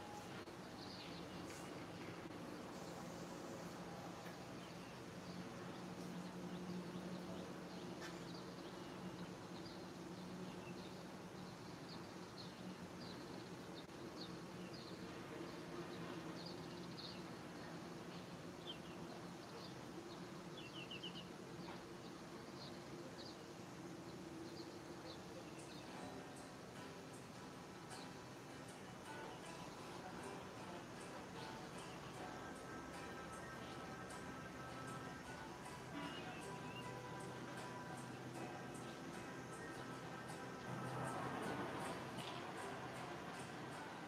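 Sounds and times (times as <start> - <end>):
birds chirping: 0.0 - 44.0
steady low hum: 0.0 - 44.0.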